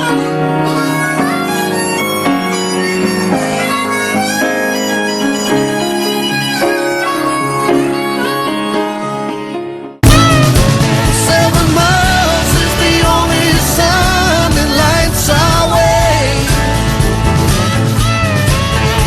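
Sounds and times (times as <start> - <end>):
band playing slow song: 0.0 - 19.0
harmonica sliding notes: 0.0 - 19.0.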